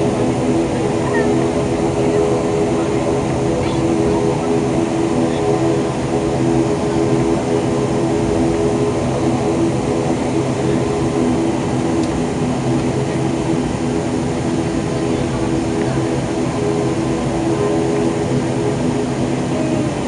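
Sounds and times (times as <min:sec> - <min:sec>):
turboprop engines droning in cabin: 0:00.0 - 0:20.0.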